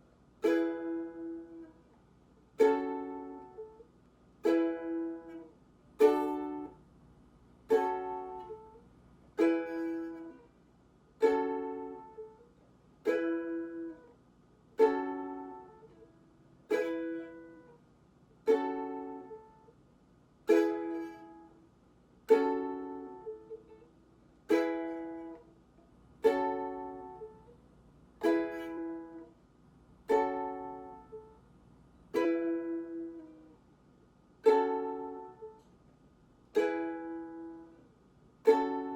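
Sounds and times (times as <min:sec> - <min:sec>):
ukulele chords strummed: 0:00.0 - 0:06.8, 0:07.6 - 0:10.5, 0:11.2 - 0:14.2, 0:14.8 - 0:17.8, 0:18.4 - 0:19.8, 0:20.4 - 0:21.7, 0:22.3 - 0:25.6, 0:26.2 - 0:27.6, 0:28.2 - 0:29.4, 0:30.0 - 0:31.4, 0:32.0 - 0:33.7, 0:34.4 - 0:35.7, 0:36.4 - 0:38.9.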